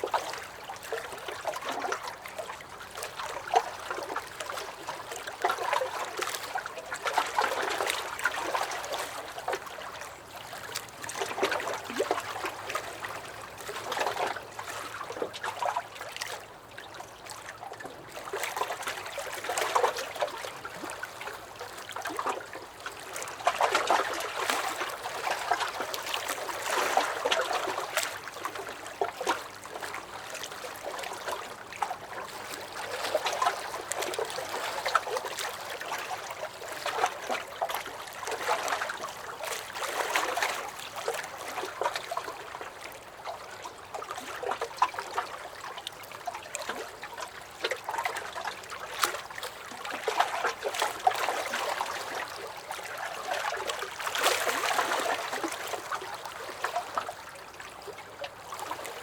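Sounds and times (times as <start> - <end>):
waves lapping against a dock: 0.0 - 59.0.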